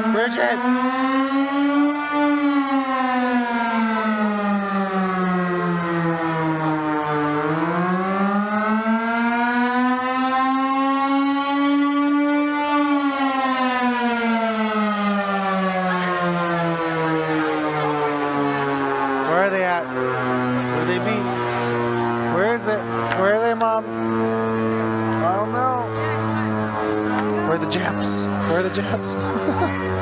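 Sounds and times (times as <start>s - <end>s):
air raid siren wailing: 0.0s - 30.0s.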